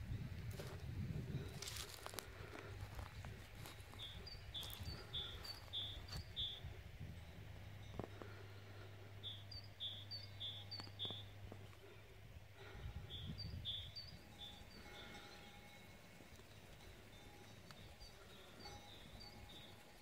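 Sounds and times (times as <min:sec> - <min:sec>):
low steady hum: 0:00.0 - 0:20.0
songbird singing: 0:01.3 - 0:20.0.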